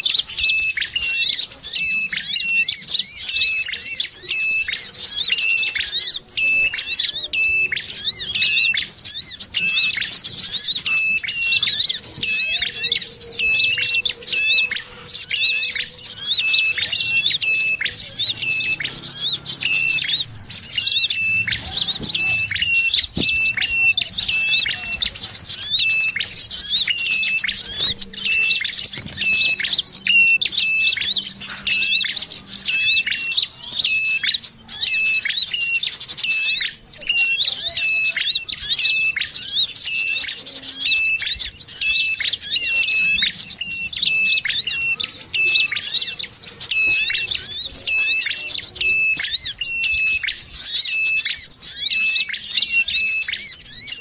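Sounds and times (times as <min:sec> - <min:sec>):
songbirds chattering and twittering: 0:00.0 - 0:54.0.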